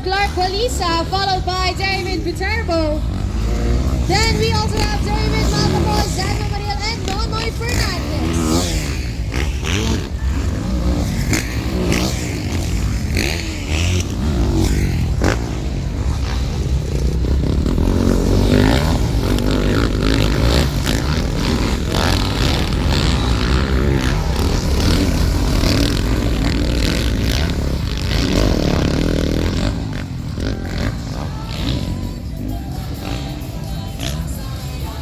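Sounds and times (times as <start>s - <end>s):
motocross bike engines revving: 0.0s - 35.0s.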